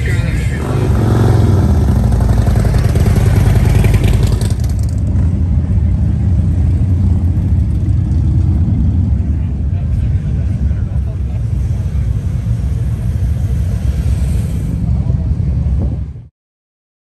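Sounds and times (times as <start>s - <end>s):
motorcycle engine rumbling: 0.0s - 16.3s.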